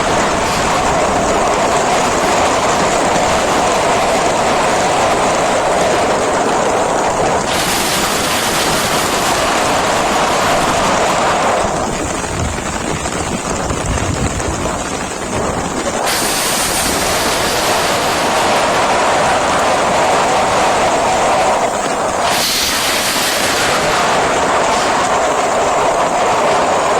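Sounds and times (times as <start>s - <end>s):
heavy rain rushing: 0.0s - 26.9s
wind buffeting microphone: 0.0s - 26.9s.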